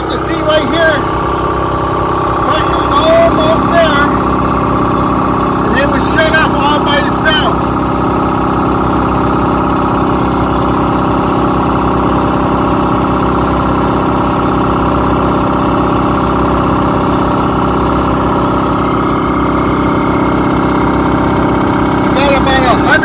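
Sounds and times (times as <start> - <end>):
air compressor running: 0.0 - 23.0.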